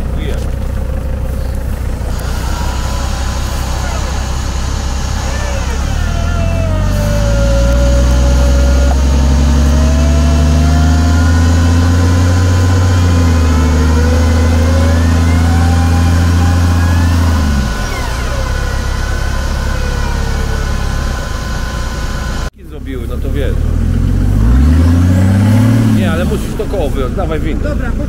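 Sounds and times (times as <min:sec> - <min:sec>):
wavering whine: 0:00.0 - 0:22.5
engine revving high: 0:01.3 - 0:28.0.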